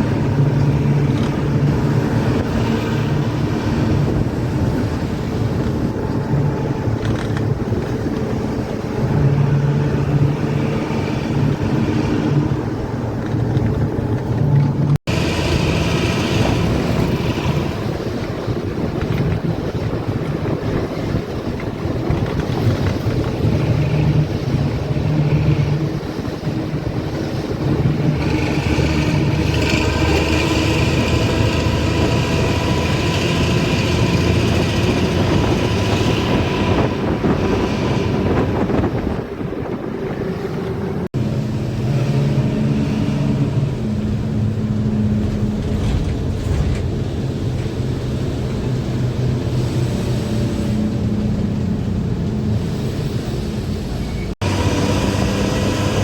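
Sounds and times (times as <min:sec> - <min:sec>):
bus engine rumbling: 0:00.0 - 0:56.0
high engine whine: 0:00.0 - 0:56.0.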